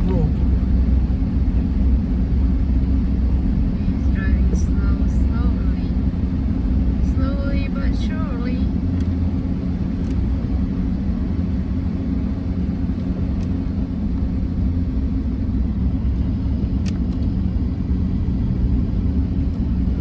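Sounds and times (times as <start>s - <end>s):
car interior driving rumble: 0.0s - 20.0s.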